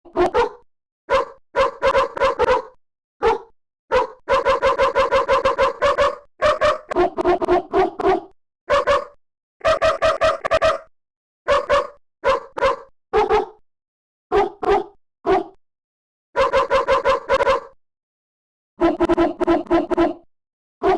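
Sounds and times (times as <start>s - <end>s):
dog barking: 0.1s - 13.6s, 14.3s - 15.6s, 16.3s - 17.8s, 18.8s - 20.9s.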